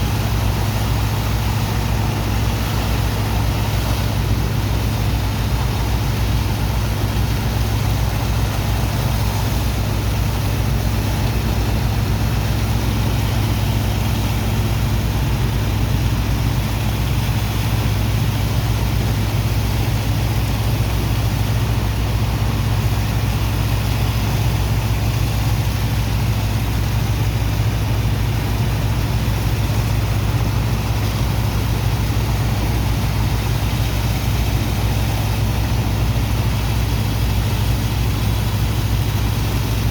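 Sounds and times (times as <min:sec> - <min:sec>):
pump engine humming: 0:00.0 - 0:39.9.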